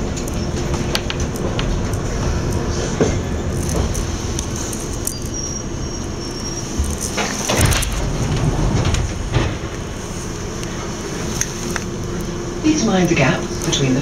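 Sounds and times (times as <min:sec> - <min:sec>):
passing train: 0:00.0 - 0:14.0
train rumbling on rails: 0:00.0 - 0:14.0.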